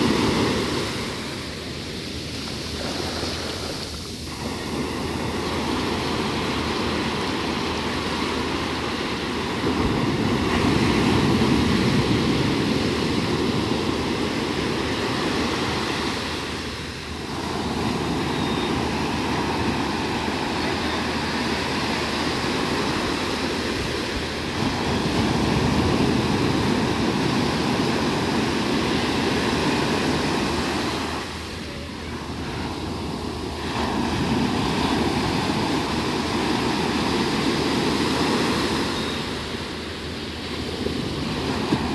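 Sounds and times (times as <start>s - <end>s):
sea waves breaking on beach: 0.0s - 41.9s.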